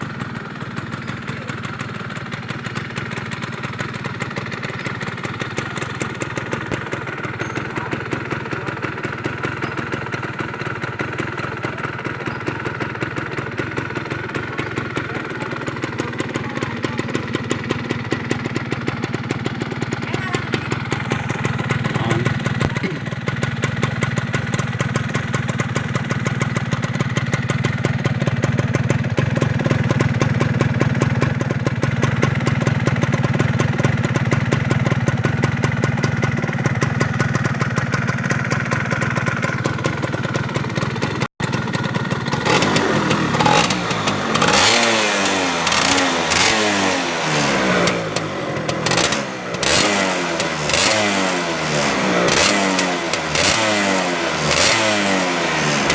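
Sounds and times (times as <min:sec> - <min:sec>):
motorcycle engine revving: 0:00.0 - 0:55.9
two-stroke motorcycle engine idling: 0:00.0 - 0:55.9.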